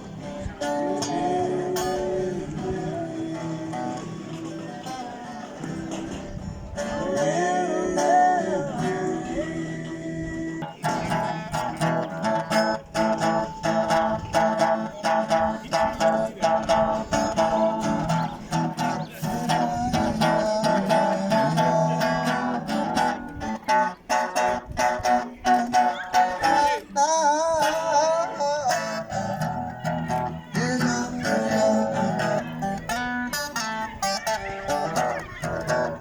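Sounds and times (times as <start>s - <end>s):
guitar strumming chords: 0.0s - 36.0s.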